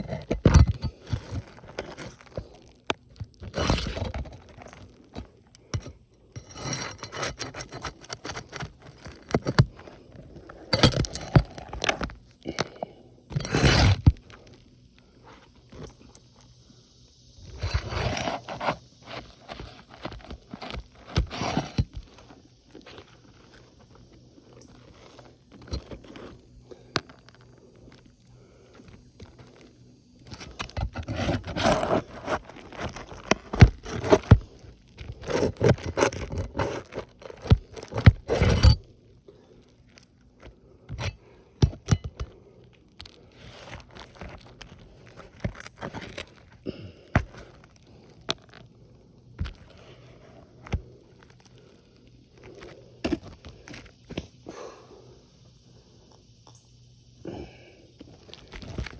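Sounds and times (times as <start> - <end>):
shingles scraping and crunching: 0.0 - 16.6, 17.2 - 54.4, 58.0 - 58.9.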